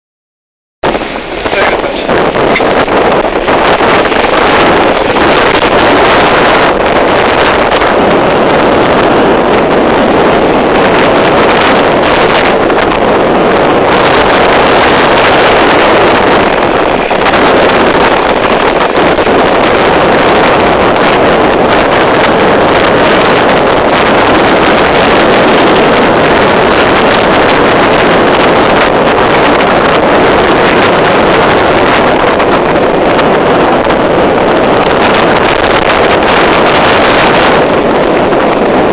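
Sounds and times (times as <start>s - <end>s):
wind buffeting microphone: 0.8s - 38.9s.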